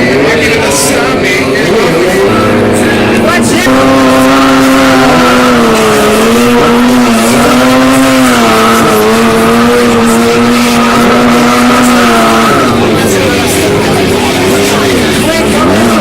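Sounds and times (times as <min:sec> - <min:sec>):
motorcycle engine at high revs: 0:01.4 - 0:16.0.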